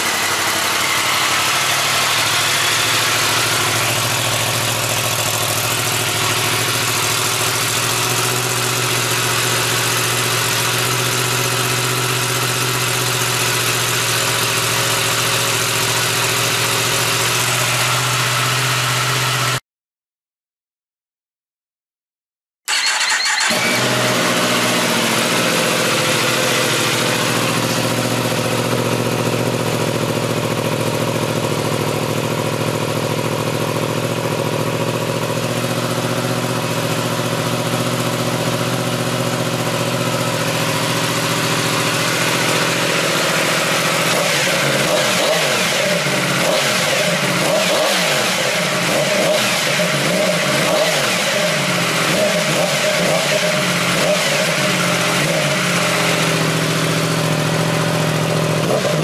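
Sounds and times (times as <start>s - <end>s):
motorcycle engine idling: 0.0s - 19.6s, 22.8s - 59.0s.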